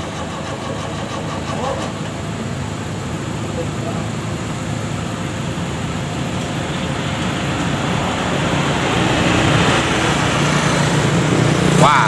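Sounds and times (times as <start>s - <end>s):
road traffic: 0.0s - 12.0s
vehicle engine hum: 0.0s - 12.0s.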